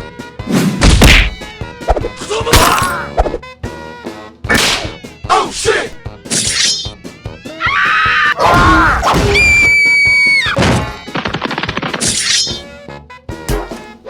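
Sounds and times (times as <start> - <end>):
music: 0.0 - 14.0.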